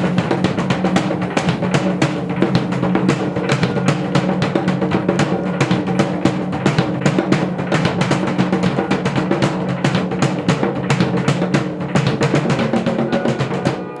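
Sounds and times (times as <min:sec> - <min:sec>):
fast drumbeat: 0:00.0 - 0:14.0.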